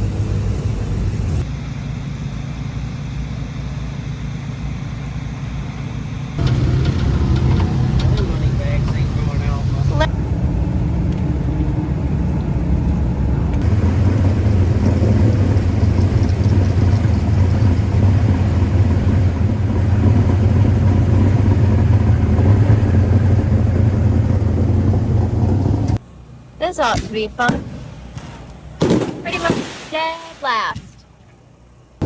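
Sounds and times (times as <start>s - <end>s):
race car engines rumbling: 0.0s - 31.6s.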